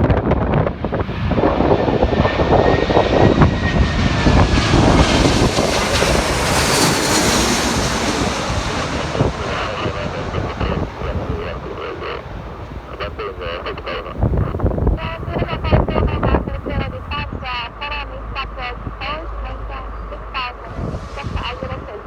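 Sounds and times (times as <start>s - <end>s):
wind buffeting microphone: 0.0s - 17.6s, 20.6s - 22.0s
jet engines rumbling: 0.1s - 17.9s.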